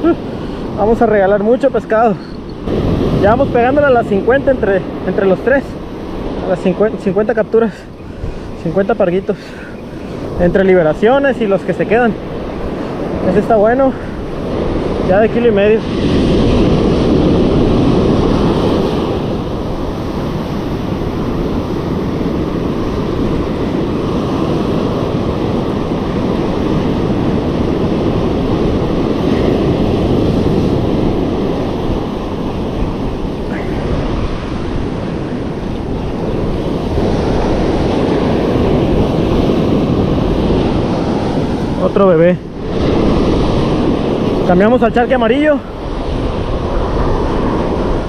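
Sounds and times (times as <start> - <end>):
surf breaking on beach: 0.0 - 48.0
wind buffeting microphone: 0.0 - 48.0.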